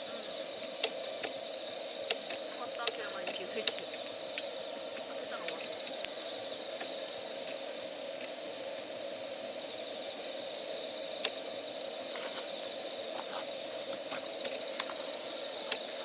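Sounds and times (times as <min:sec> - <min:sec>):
fire hissing: 0:00.0 - 0:16.0
campfire crackling and popping: 0:00.3 - 0:16.0.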